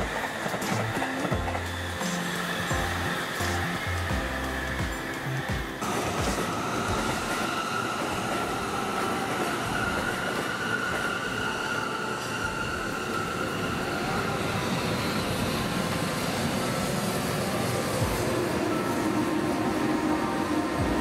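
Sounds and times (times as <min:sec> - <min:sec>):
wheel and rail running noise: 0:00.0 - 0:21.0.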